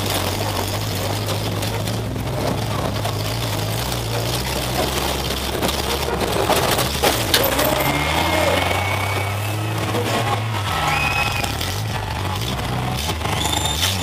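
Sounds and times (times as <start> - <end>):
car engine running: 0.0 - 14.0
loose parts rattling: 0.0 - 14.0.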